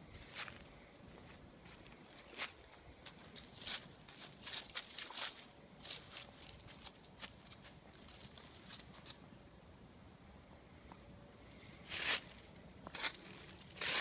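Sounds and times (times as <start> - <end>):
footsteps crunching dry leaves: 0.1 - 9.2, 11.8 - 14.0.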